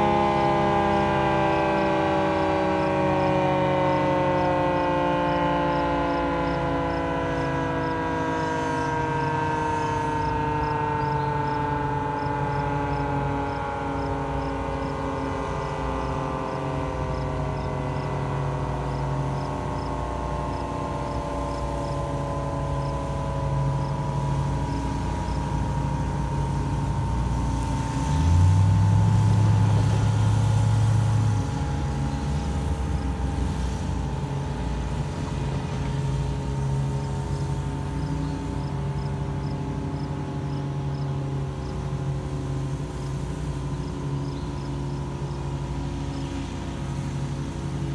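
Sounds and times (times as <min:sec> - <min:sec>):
dual-tone warning siren winding down: 0:00.0 - 0:47.9
vehicle engine running: 0:00.0 - 0:47.9.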